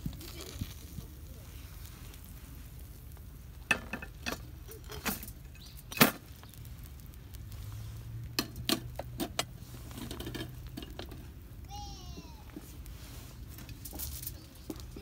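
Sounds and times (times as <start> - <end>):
campfire clicks and knocks: 0.0 - 15.0.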